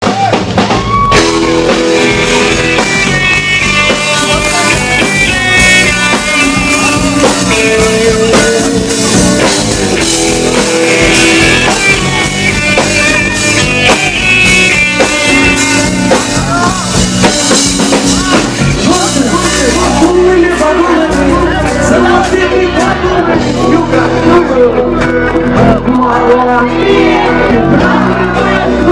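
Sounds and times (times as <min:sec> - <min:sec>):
rock music with guitar and drums: 0:00.0 - 0:28.9.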